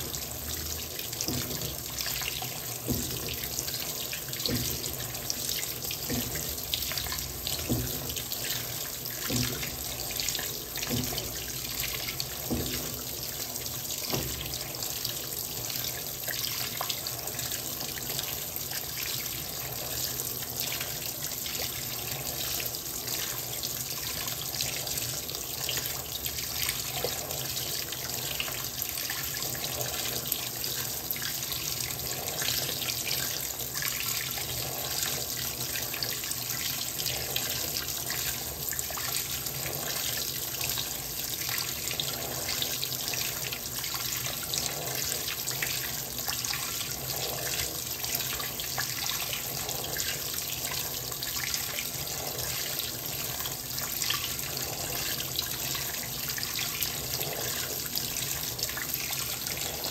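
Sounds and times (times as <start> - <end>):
water running into washing machine: 0.0 - 59.9.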